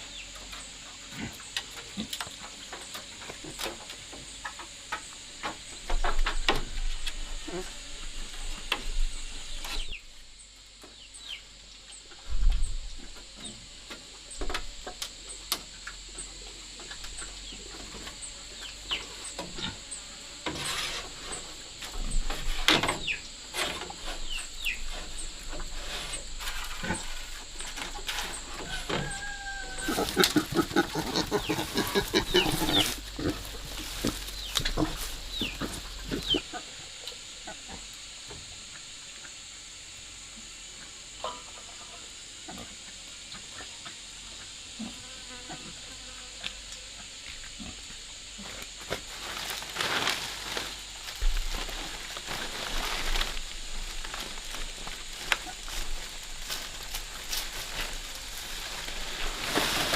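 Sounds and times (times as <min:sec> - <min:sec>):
chickens clucking and peeping: 0:10.7 - 0:59.9.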